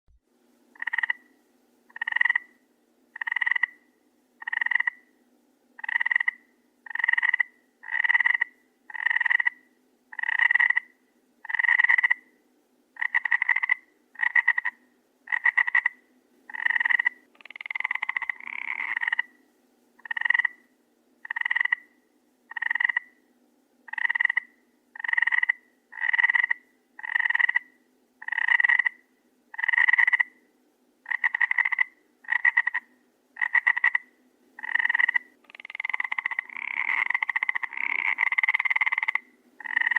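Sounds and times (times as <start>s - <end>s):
frog croaking: 0.8s - 2.6s, 3.2s - 5.1s, 5.8s - 12.3s, 13.0s - 19.4s, 20.0s - 23.2s, 23.9s - 30.4s, 31.0s - 39.9s.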